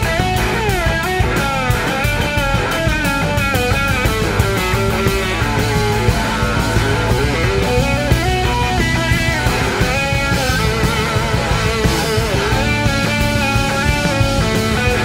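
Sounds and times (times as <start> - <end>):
bass guitar: 0.0 - 15.0
drums: 0.0 - 15.0
second electric guitar: 0.0 - 15.0
slide guitar solo: 0.0 - 15.0.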